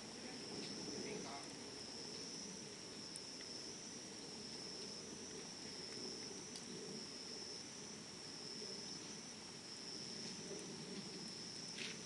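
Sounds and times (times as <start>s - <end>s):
cricket trilling: 0.0s - 12.0s
wood fire crackling: 0.0s - 12.0s.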